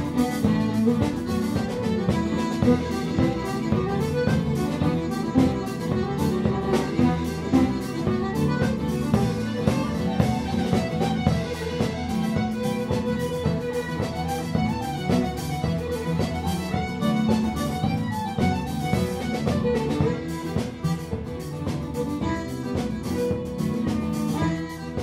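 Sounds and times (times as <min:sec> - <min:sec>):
button accordion melody: 0:00.0 - 0:25.0
strummed acoustic guitar: 0:00.0 - 0:25.0.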